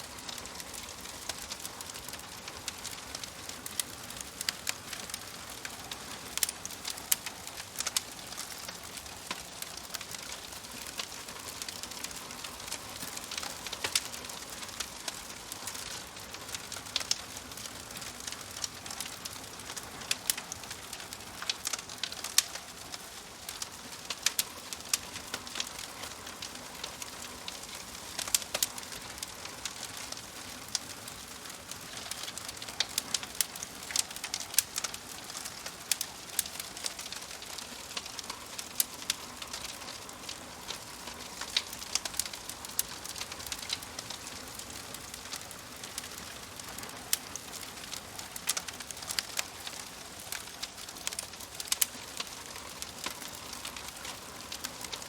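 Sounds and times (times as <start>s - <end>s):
fire popping and snapping: 0.0s - 55.0s
fire hissing: 0.1s - 55.0s.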